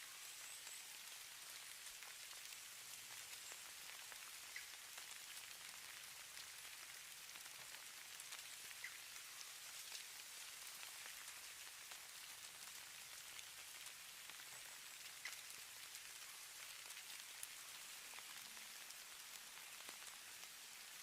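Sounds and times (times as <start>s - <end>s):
light precipitation hissing: 0.0s - 21.0s.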